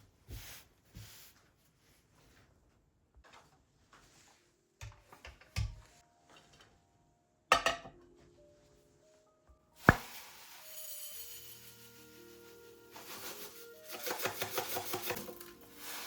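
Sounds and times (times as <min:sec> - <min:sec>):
soft background music: 0:02.6 - 0:16.0.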